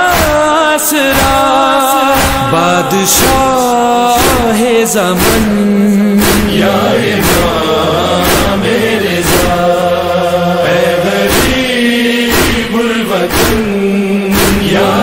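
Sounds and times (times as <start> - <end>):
steady drum beat: 0.1 - 15.0.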